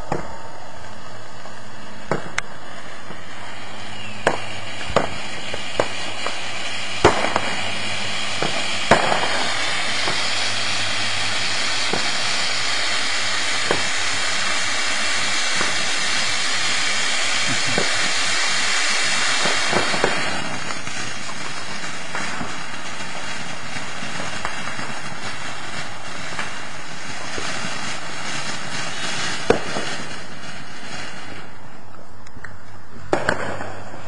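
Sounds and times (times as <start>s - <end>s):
firework fountain hissing: 0.0s - 34.0s.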